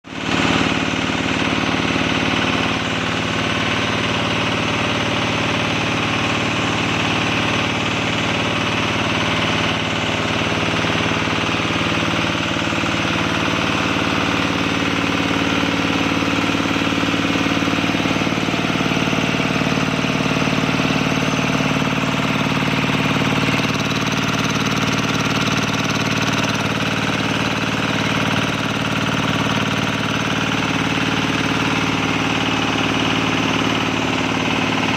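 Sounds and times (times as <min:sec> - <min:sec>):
air compressor diesel engine running: 0:00.0 - 0:34.9.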